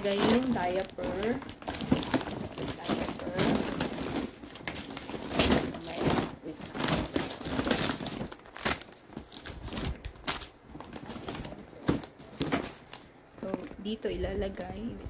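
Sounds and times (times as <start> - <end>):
plastic wrapping crinkling: 0.0 - 13.8.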